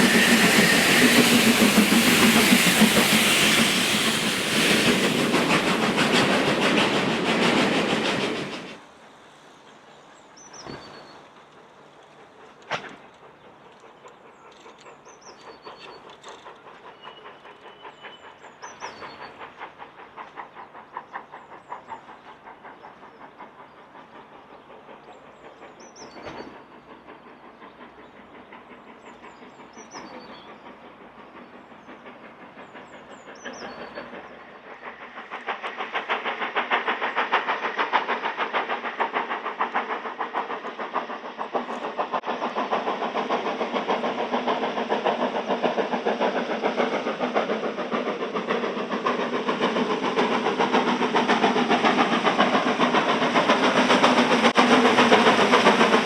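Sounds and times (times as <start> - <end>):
train running: 0.0 - 56.0.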